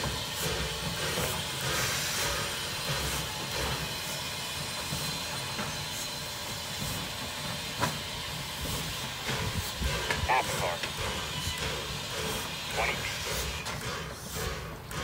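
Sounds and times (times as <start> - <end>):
steam hissing: 0.0 - 15.0
train wheels rolling: 0.0 - 15.0.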